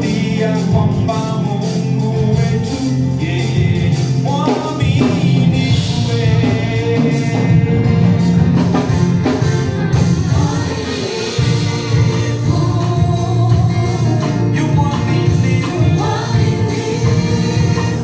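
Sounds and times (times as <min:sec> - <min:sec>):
person singing: 0:00.0 - 0:08.7, 0:10.0 - 0:18.0
band with drums: 0:00.0 - 0:18.0.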